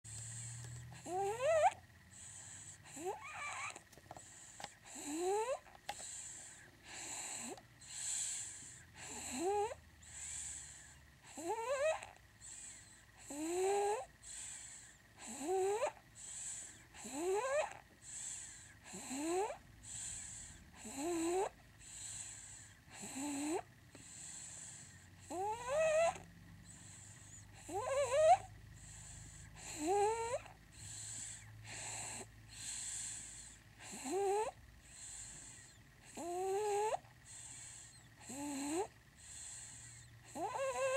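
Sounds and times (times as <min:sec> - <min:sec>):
breathy hiss: 0:00.1 - 0:25.5, 0:26.5 - 0:40.9
baby snoring: 0:00.1 - 0:40.9.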